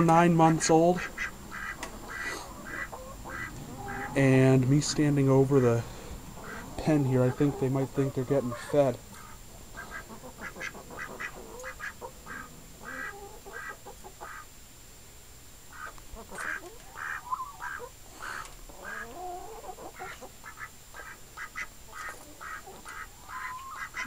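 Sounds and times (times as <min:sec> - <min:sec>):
chickens clucking: 0:00.0 - 0:14.5, 0:15.7 - 0:24.0
ducks quacking: 0:00.0 - 0:14.5, 0:15.7 - 0:24.0.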